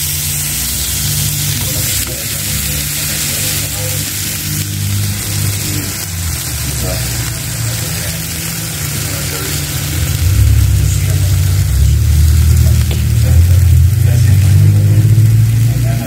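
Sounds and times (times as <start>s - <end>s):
vegetables sizzling in a frying pan: 0.0s - 16.0s
loud low rumble: 0.6s - 16.0s.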